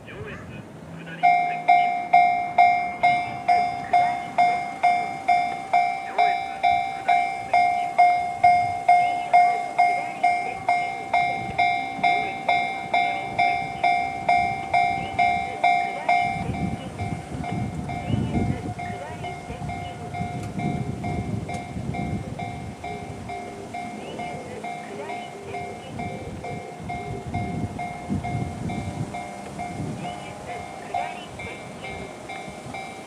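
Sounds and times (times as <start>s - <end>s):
electric train rumble: 0.0s - 33.0s
level crossing warning bell dinging: 1.0s - 33.0s.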